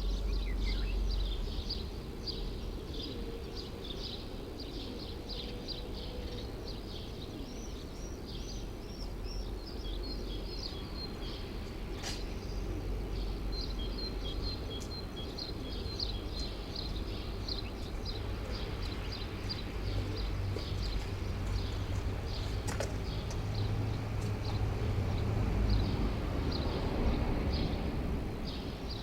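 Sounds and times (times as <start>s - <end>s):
small birds chirping: 0.0s - 27.9s
city traffic rumble: 0.0s - 29.0s.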